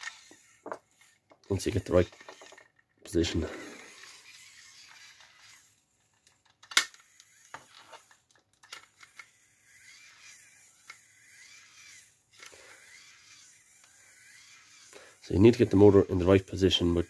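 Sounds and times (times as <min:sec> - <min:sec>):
small motor whine: 0:00.0 - 0:01.2, 0:01.8 - 0:06.0, 0:06.9 - 0:08.2, 0:08.8 - 0:17.0.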